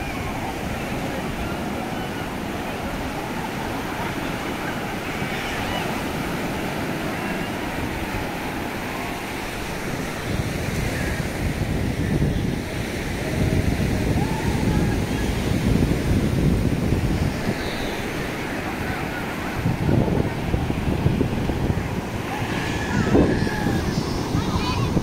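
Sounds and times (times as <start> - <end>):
surf breaking on beach: 0.0 - 25.0
wind buffeting microphone: 0.0 - 25.0.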